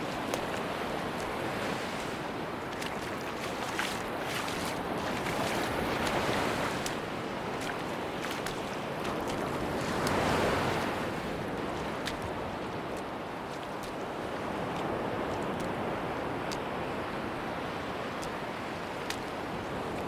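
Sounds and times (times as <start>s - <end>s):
sea waves washing onto a beach: 0.0s - 20.0s.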